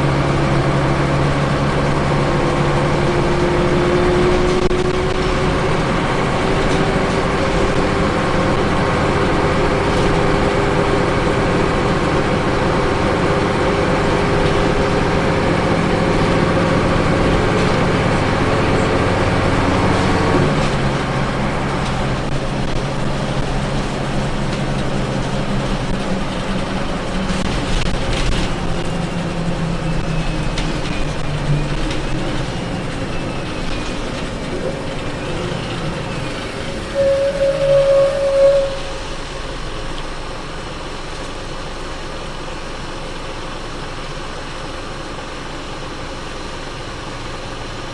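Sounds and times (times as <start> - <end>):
bus engine running: 0.0 - 47.9.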